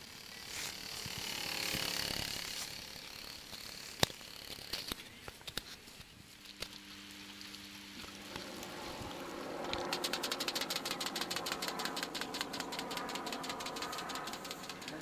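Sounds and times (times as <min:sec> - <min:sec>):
small engine ticking: 0:00.0 - 0:05.6, 0:06.5 - 0:15.0.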